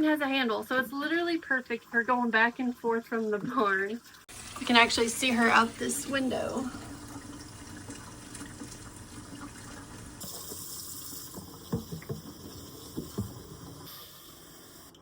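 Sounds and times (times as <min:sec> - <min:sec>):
tap water running into a jug: 0:01.6 - 0:15.0.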